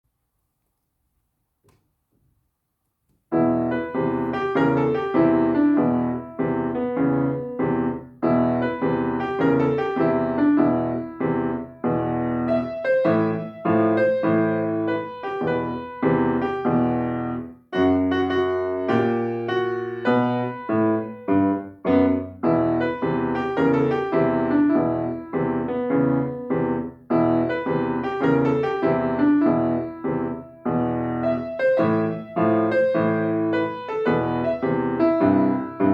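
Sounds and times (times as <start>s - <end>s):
solo blues piano: 3.2s - 35.9s.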